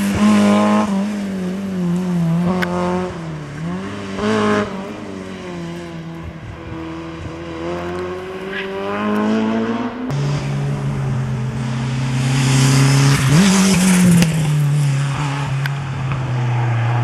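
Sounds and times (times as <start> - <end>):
rally car engine steady note: 0.0 - 16.6
rally car engine revving: 0.0 - 17.0.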